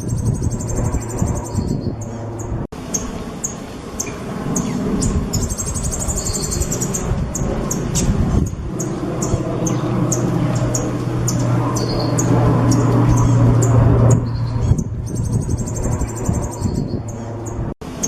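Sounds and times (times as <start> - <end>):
songbird chirping and trilling: 0.0 - 17.7
steady low hum: 0.0 - 18.0.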